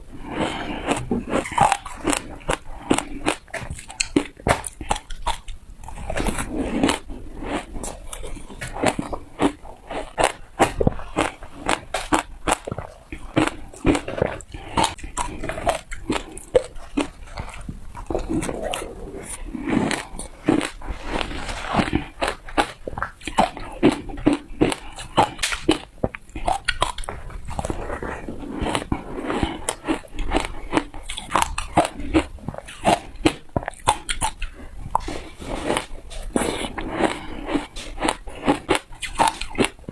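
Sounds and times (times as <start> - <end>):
ice crunching between teeth: 0.3 - 39.9.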